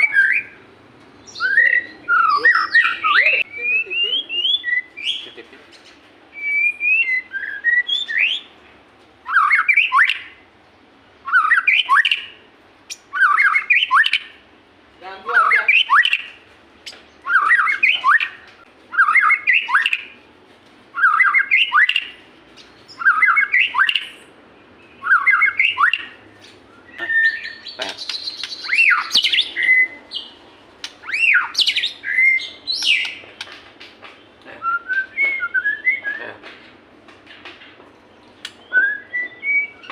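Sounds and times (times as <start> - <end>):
bird singing: 0.0 - 20.2, 20.9 - 36.7, 37.3 - 39.9.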